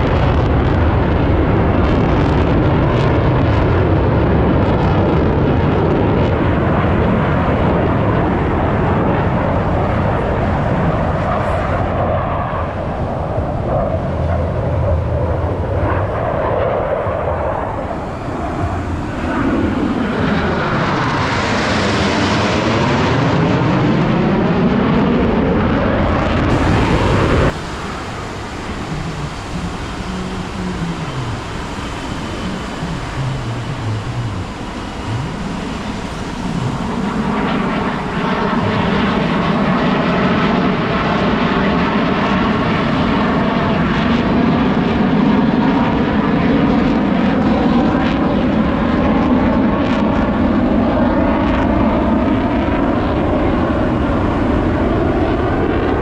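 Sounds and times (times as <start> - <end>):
jets flying past: 0.0 - 56.0
quiet jet rumble: 0.0 - 56.0.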